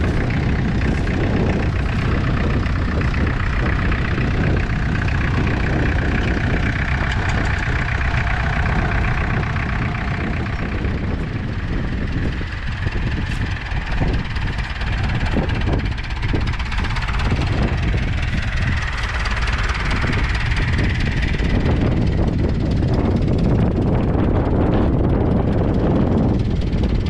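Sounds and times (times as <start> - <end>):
tractor engine running under load: 0.0 - 27.0.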